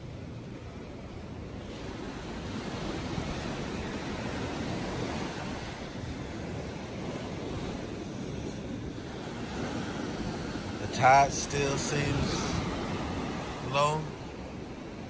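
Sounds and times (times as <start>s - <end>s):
ocean surf washing onto beach: 0.0s - 15.0s
wind on microphone: 1.4s - 15.0s.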